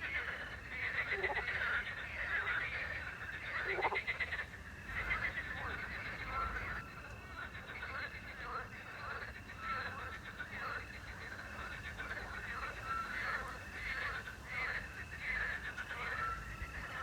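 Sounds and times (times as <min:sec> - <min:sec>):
frogs croaking: 0:00.0 - 0:17.0
crickets trilling: 0:01.0 - 0:17.0.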